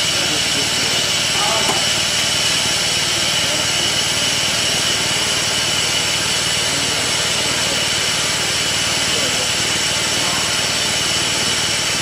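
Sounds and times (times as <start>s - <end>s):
machine running: 0.0s - 12.0s.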